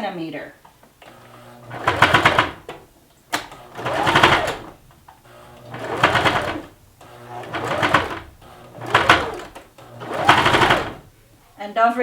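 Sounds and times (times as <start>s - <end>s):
sewing machine stitching: 0.8s - 11.3s.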